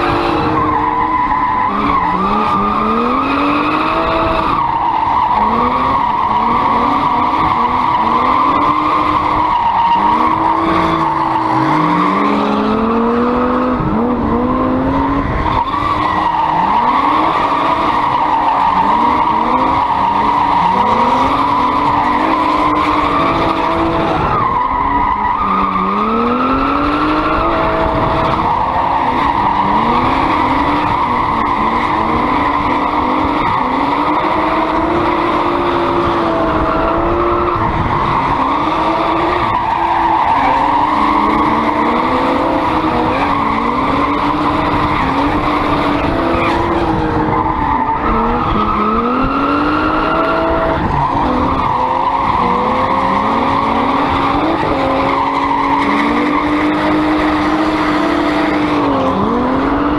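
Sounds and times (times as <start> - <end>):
car engine revving: 0.0 - 59.9
high tyre squeal: 0.0 - 59.9.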